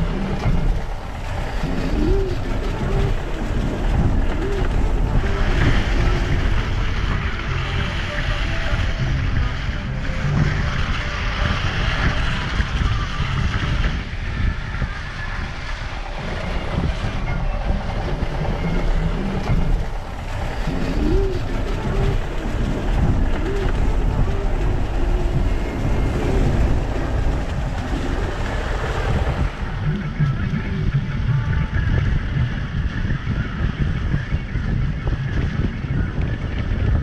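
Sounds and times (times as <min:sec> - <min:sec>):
engine and road rumble: 0:00.0 - 0:37.0
wind buffeting microphone: 0:00.0 - 0:37.0.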